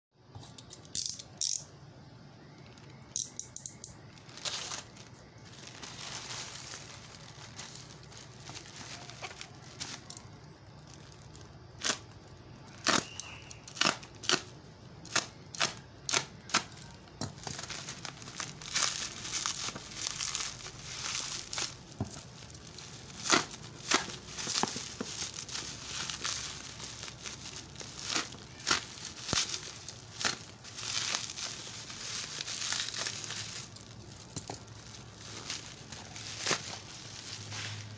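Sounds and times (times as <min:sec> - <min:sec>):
plastic and bubble wrap crinkling: 0:04.0 - 0:37.9.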